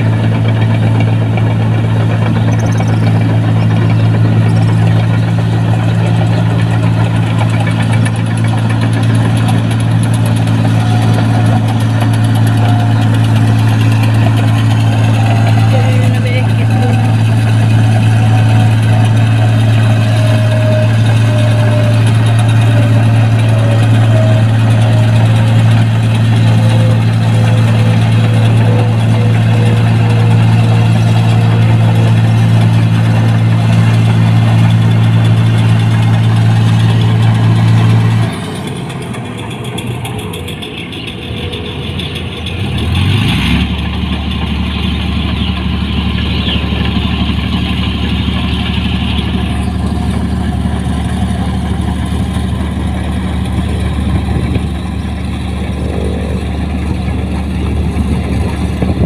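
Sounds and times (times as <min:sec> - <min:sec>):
combine harvester diesel engine: 0:00.0 - 0:59.0.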